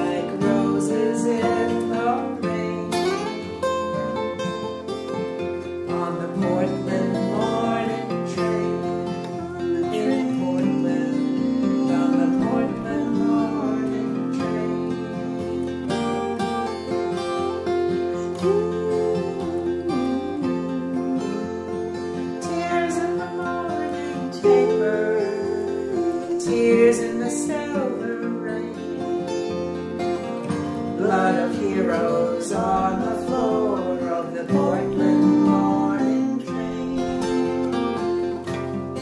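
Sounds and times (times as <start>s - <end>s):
strummed guitar: 0.0s - 39.0s.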